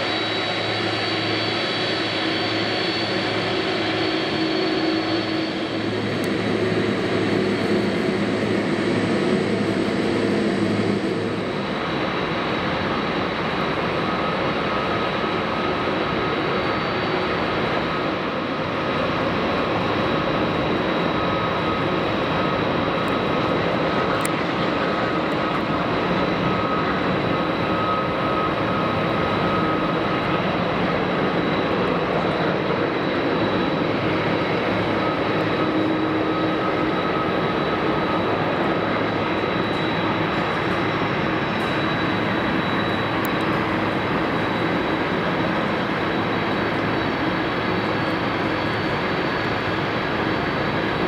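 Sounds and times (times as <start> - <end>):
jet engines running: 0.0 - 51.0.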